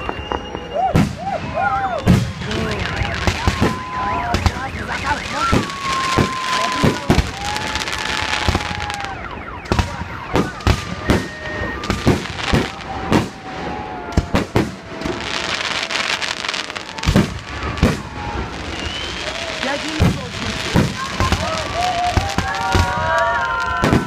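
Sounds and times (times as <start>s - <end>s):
long whistling tones: 0.0s - 14.2s, 14.8s - 24.0s.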